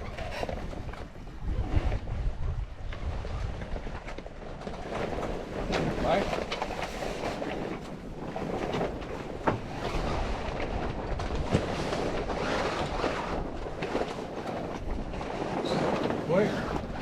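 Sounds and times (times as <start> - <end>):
sail cloth flapping in wind: 0.0 - 17.0.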